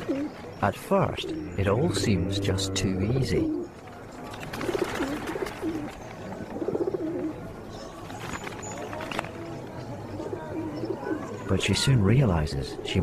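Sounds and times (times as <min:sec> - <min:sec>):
birds cooing: 0:00.0 - 0:12.0.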